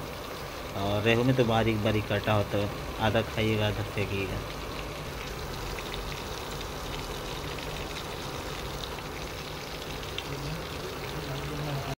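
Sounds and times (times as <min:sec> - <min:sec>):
fish frying in sizzling oil: 0:00.0 - 0:12.0.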